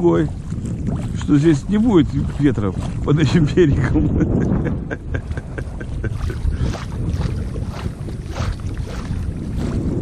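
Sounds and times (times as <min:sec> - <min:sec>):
wavelets slapping boat side: 0:00.0 - 0:10.0
wind buffeting microphone: 0:00.0 - 0:10.0.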